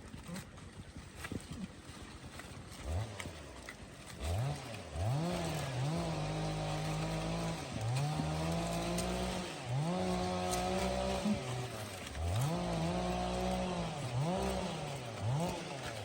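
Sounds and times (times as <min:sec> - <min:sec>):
small engine revving: 0:01.2 - 0:16.0.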